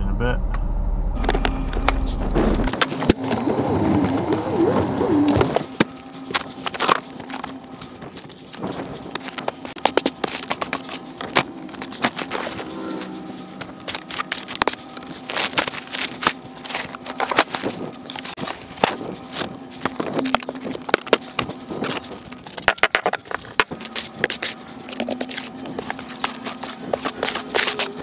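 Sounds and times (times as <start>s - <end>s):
brush scraping snow: 1.7s - 28.0s.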